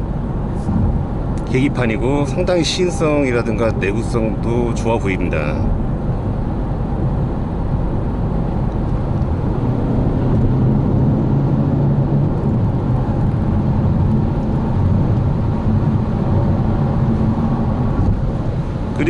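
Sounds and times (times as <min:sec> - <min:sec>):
diesel engine hum: 0:00.0 - 0:19.0
road and tyre rumble: 0:00.0 - 0:19.0.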